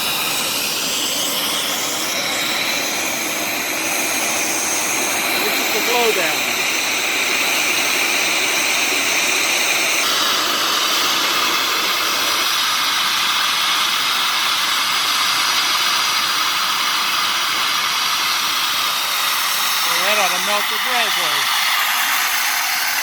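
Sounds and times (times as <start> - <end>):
steam blasting with loud hiss: 0.0 - 23.0.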